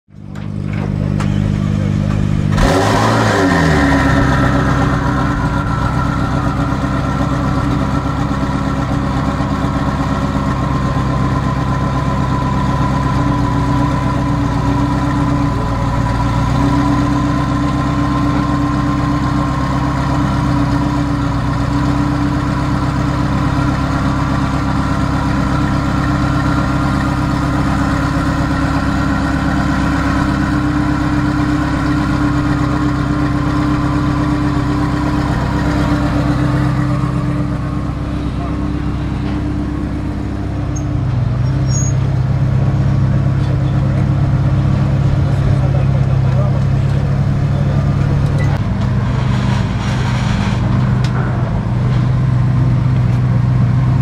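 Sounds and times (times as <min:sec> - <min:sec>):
sports car engine revving: 0:00.7 - 0:54.0.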